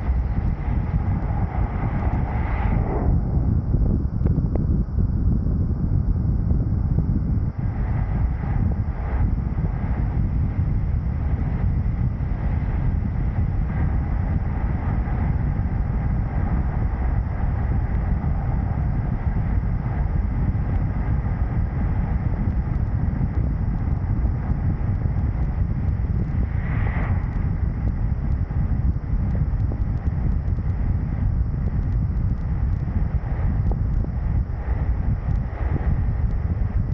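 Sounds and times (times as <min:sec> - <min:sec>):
vehicle rumble: 0:00.0 - 0:36.9
wind buffeting microphone: 0:00.0 - 0:36.9.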